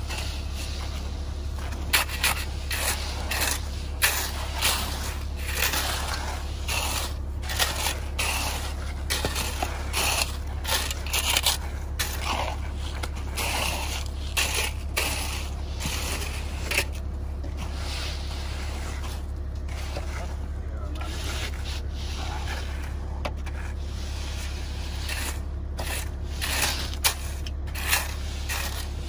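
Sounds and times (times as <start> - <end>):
low hum: 0.0 - 29.0
shovels scraping wet concrete: 0.0 - 29.0.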